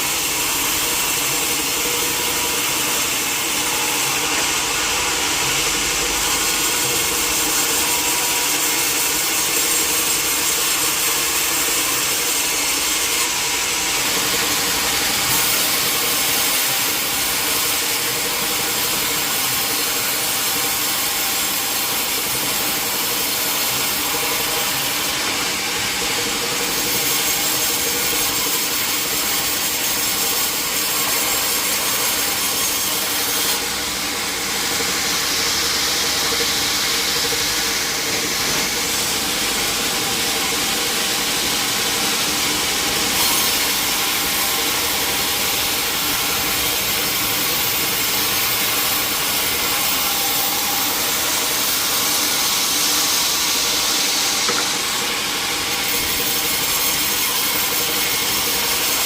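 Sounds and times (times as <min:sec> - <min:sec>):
saw cutting through log: 0:00.0 - 0:59.0.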